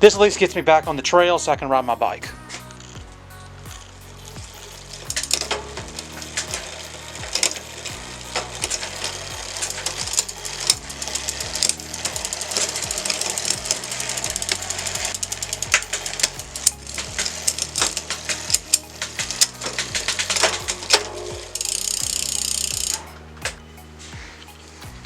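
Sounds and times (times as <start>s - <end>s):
background music with bass line: 0.0s - 25.0s
bicycle chain clicking and rattling: 2.5s - 25.0s.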